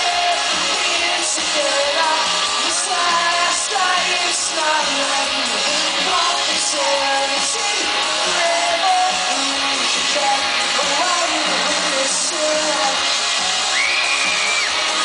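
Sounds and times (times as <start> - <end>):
live pop-rock band playing: 0.0 - 15.0
person singing: 0.0 - 15.0.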